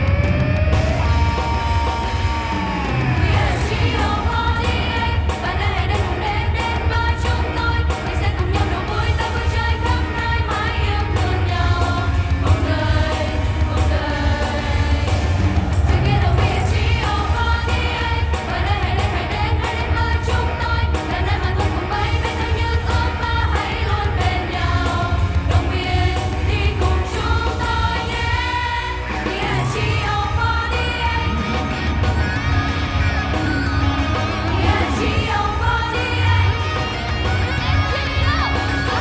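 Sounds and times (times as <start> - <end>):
backing track with steady beat: 0.0 - 39.0
women singing together: 1.3 - 31.9, 34.4 - 39.0.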